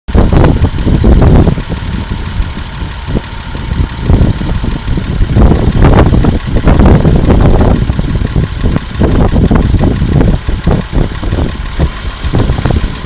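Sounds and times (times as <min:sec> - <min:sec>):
steady machine whine: 0:00.1 - 0:13.0
tractor rumbling: 0:00.1 - 0:13.0.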